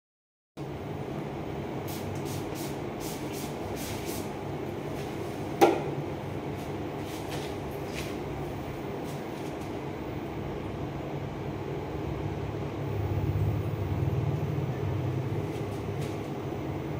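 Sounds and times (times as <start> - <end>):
steady low hum: 0.6 - 16.9.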